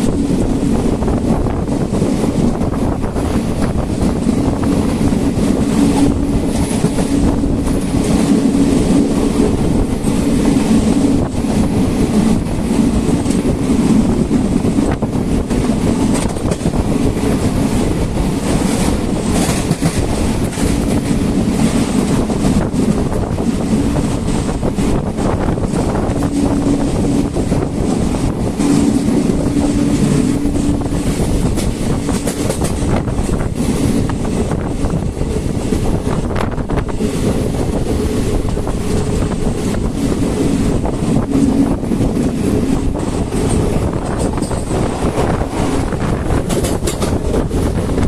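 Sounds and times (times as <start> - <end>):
train coach rumbling: 0.0 - 48.0
wheels clicking over rail joints: 0.0 - 48.0.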